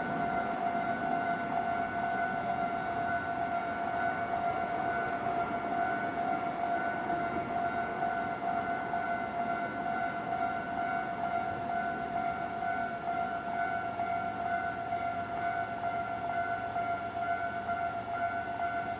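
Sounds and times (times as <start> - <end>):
level crossing warning bell: 0.0 - 18.9.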